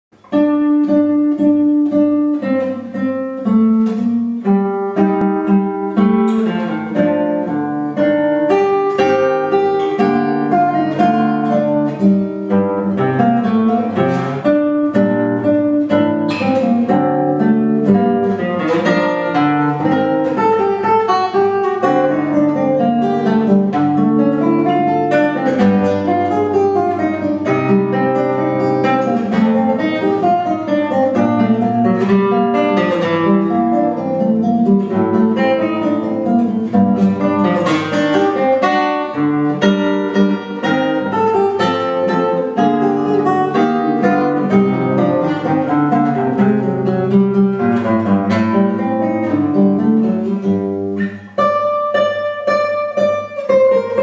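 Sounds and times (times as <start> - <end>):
classical guitar playing: 0.1 - 54.0.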